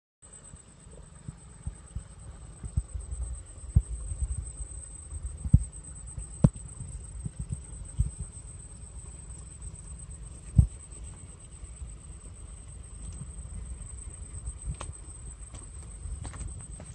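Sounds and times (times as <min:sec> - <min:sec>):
insects chirring: 0:00.3 - 0:16.9.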